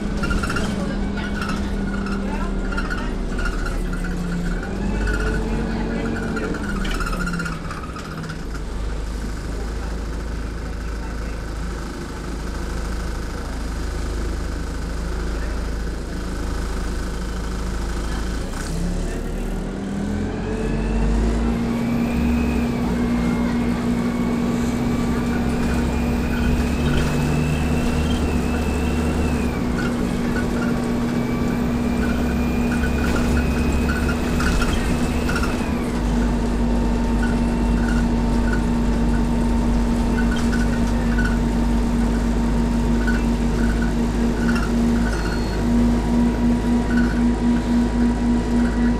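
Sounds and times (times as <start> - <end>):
bus engine rumble: 0.0 - 48.9.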